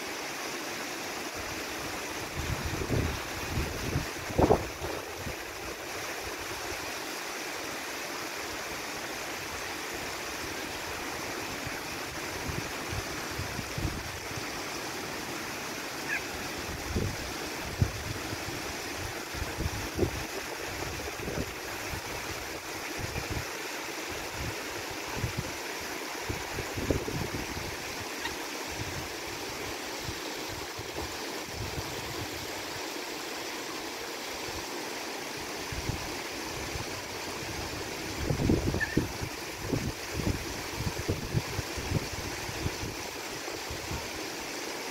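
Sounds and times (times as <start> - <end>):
river rushing over stones: 0.0 - 44.9.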